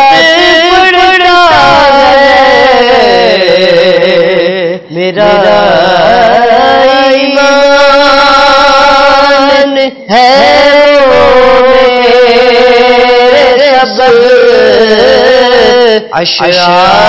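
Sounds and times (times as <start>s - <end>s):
man singing solo: 0.0s - 17.0s.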